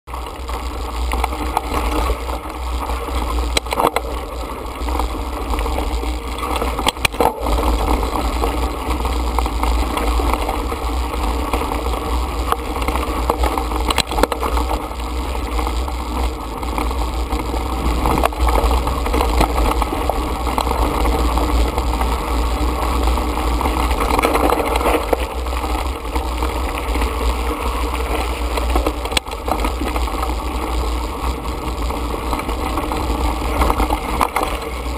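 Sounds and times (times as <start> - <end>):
rumble of wind and vibration: 0.0 - 34.9
tyre noise on gravel: 0.1 - 34.9
bike knocking on stones: 0.2 - 34.9.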